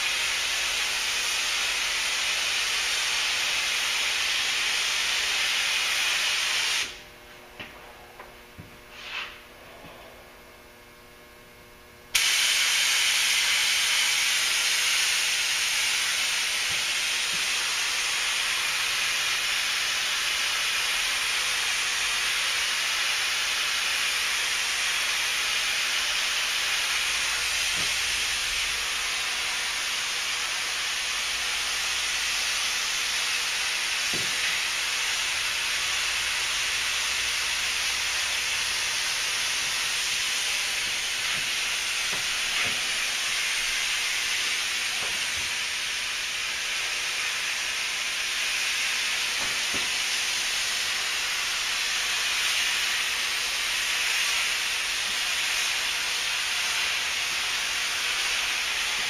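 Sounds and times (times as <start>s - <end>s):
paint spray gun hissing: 0.0s - 7.0s, 12.2s - 59.0s.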